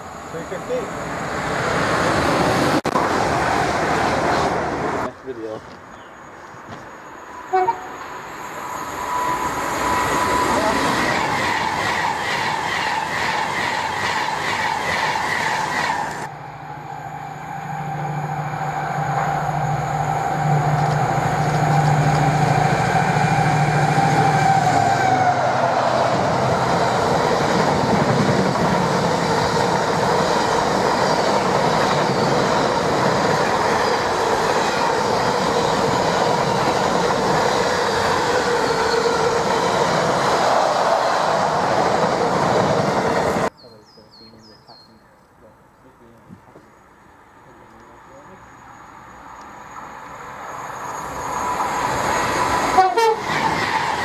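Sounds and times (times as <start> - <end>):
train wheels roaring on rail: 0.0 - 5.8, 6.5 - 43.5, 46.4 - 54.0
passing train hum: 0.0 - 43.5, 45.6 - 54.0.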